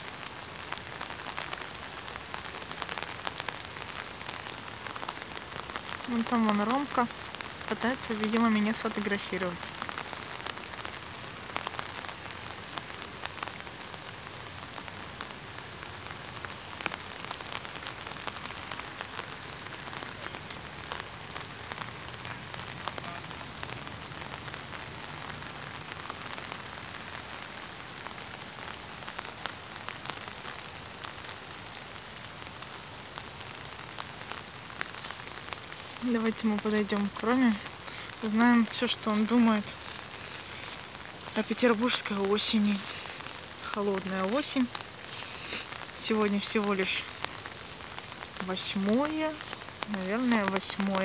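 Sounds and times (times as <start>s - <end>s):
steady rain: 0.0s - 51.0s.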